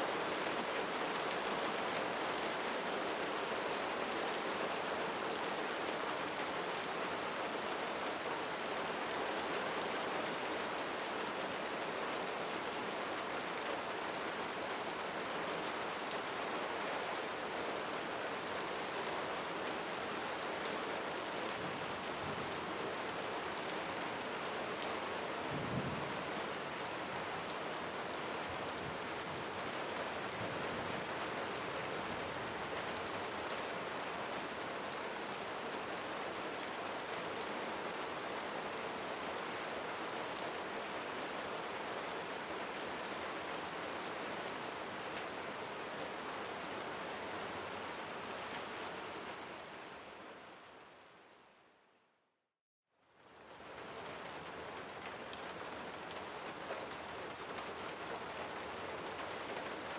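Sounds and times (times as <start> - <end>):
rain falling on leaves: 0.0 - 52.0, 52.9 - 59.9.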